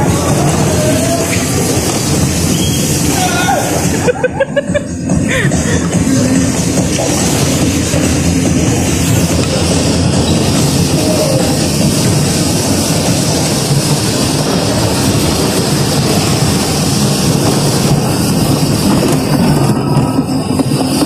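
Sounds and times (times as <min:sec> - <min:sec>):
bumper car rolling and motor noise: 0:00.0 - 0:21.0.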